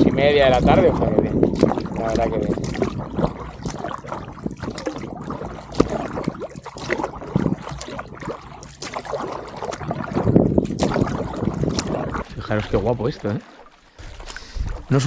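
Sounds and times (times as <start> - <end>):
paddle strokes splashing water: 0.0 - 15.0
water dripping: 0.0 - 15.0.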